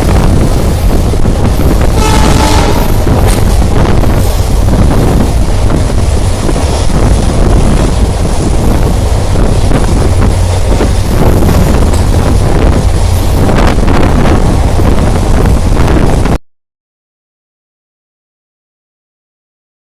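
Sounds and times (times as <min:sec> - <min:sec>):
train rumbling at speed: 0:00.0 - 0:16.4
wind buffeting microphone: 0:00.0 - 0:16.4.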